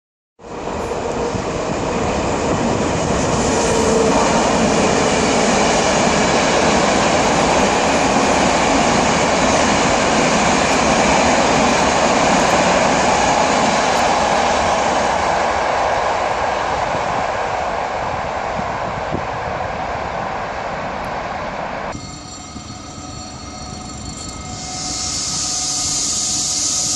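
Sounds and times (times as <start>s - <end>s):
train wheels rumbling on rails: 0.4s - 26.9s.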